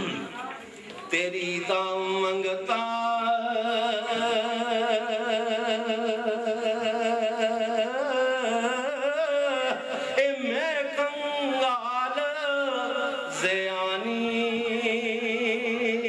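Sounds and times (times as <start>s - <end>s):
man singing with vibrato: 1.0s - 16.0s.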